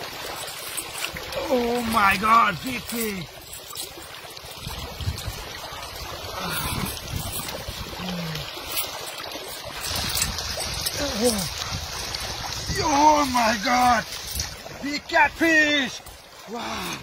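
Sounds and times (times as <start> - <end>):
splashing legs and hands in water: 0.0 - 17.0
stream water splashing over rocks: 0.0 - 17.0.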